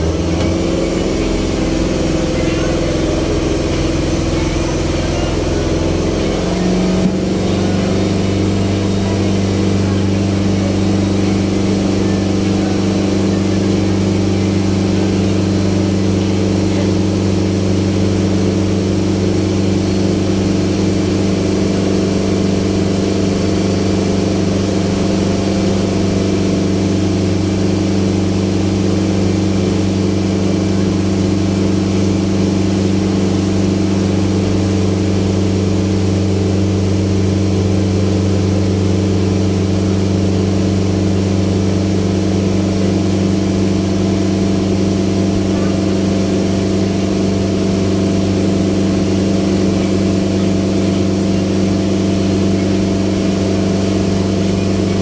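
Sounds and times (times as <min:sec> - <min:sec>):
ferry engine droning: 0:00.0 - 0:55.0.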